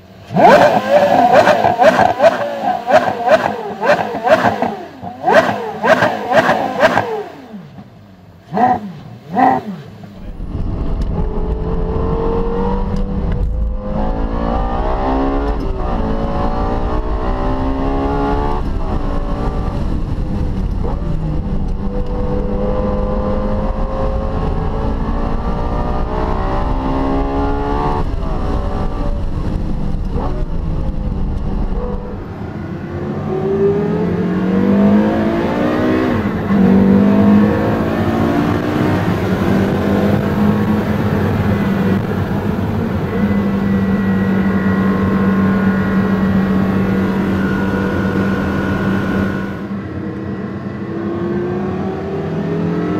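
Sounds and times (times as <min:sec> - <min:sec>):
car engine accelerating hard: 0:00.1 - 0:52.9
car engine through gear changes: 0:00.2 - 0:52.9.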